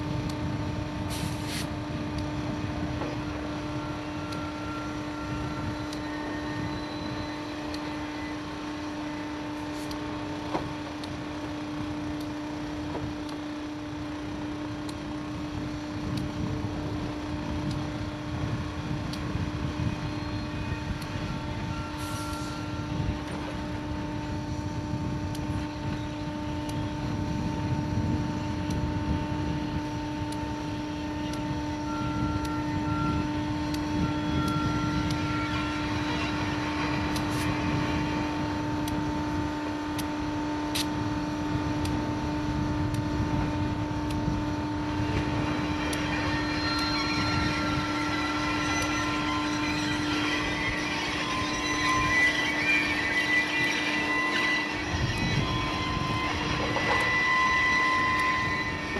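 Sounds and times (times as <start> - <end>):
diesel locomotive engine drone: 0.0 - 58.9.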